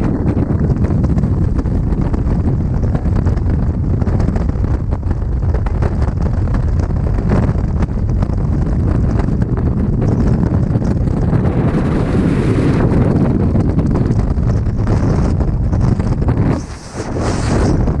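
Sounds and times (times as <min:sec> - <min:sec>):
wind noise rumble: 0:00.0 - 0:18.0.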